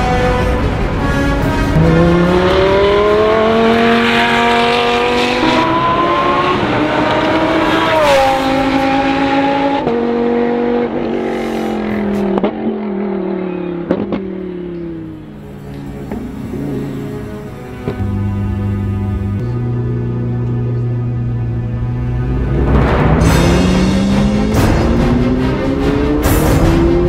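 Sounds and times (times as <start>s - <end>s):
race car engine at full throttle: 0.0s - 27.0s.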